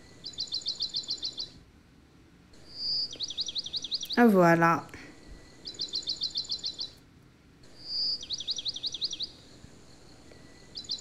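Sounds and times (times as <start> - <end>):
small bird chirping in trills: 0.0 - 1.6, 2.5 - 7.0, 7.6 - 11.0.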